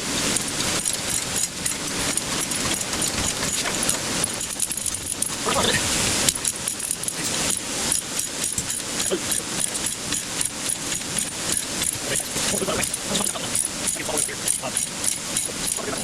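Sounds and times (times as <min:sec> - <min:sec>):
ratchet clicking rapidly: 0:00.0 - 0:16.0.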